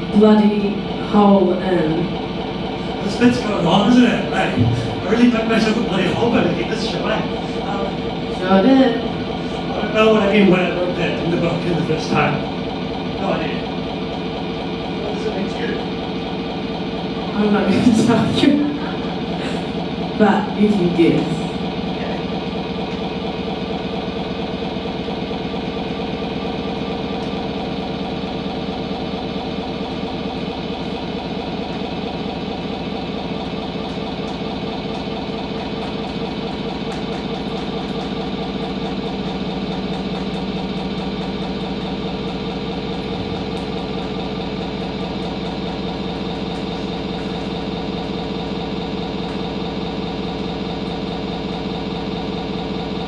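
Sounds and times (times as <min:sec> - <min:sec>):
chainsaw idling: 0:00.0 - 0:53.0.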